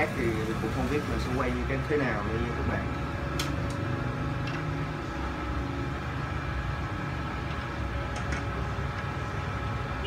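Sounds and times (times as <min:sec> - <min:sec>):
mechanical hum with low rumble: 0:00.0 - 0:10.0.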